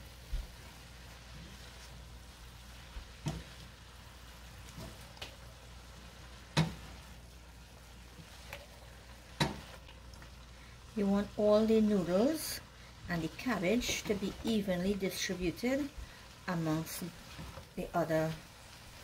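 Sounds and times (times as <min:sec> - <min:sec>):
food frying in a pan: 0:00.0 - 0:19.0.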